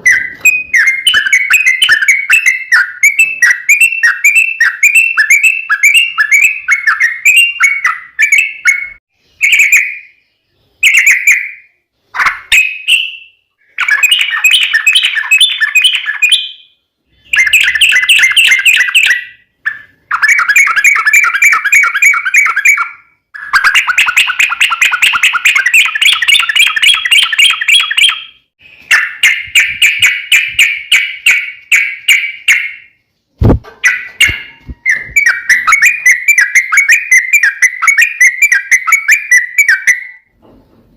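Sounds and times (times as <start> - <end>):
bird chattering song: 0.0 - 40.3.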